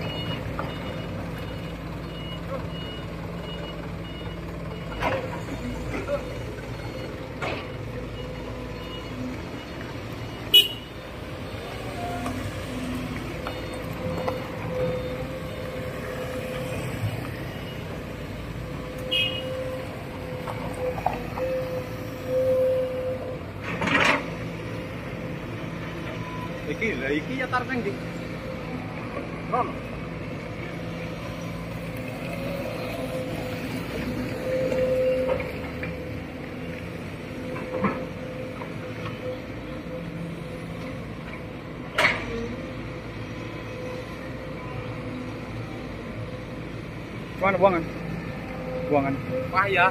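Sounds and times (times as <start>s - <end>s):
excavator engine rumble and whine: 0.0s - 49.9s.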